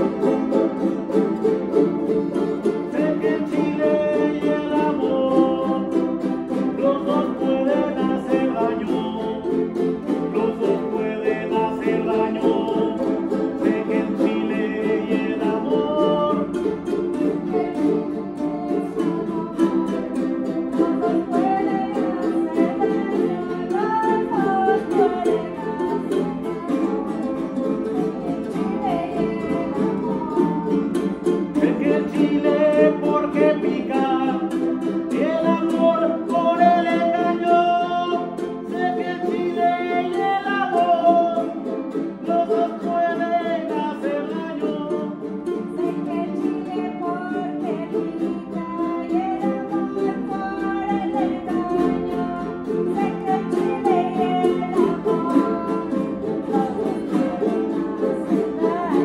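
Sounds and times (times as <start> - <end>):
person singing: 0.0 - 59.0
strummed guitars: 0.0 - 59.0.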